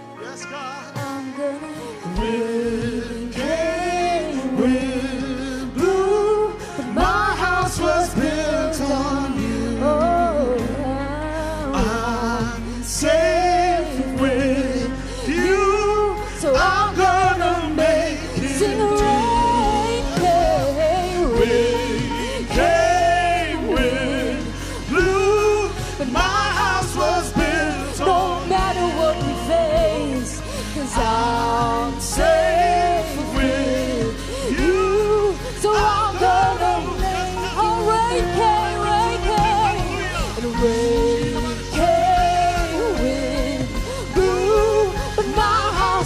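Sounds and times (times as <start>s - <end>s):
band accompaniment: 0.0s - 46.0s
worship team singing: 0.0s - 46.0s.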